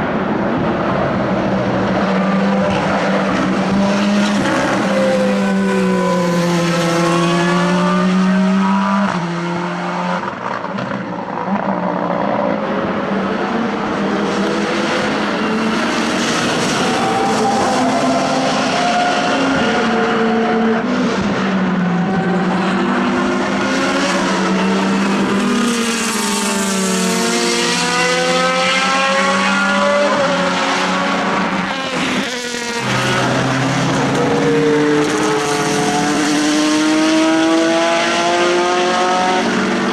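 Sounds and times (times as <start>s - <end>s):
race car engines passing by: 0.0s - 39.9s.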